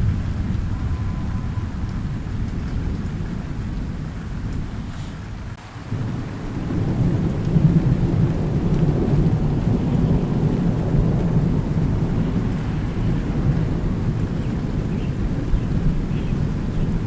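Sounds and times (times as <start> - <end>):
steady rain: 0.0 - 17.0
thunder rolling: 0.0 - 17.0.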